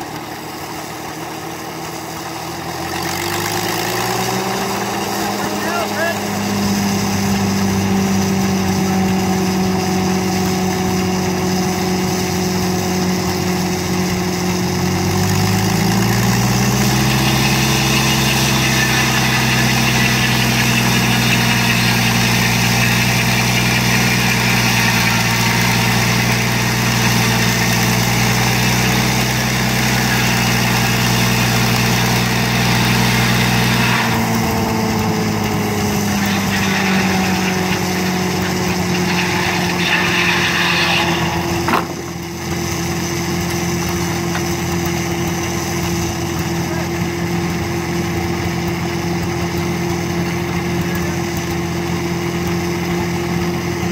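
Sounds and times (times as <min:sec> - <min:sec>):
sawmill engine running: 0:00.0 - 0:53.9
saw blade cutting log: 0:01.9 - 0:53.9.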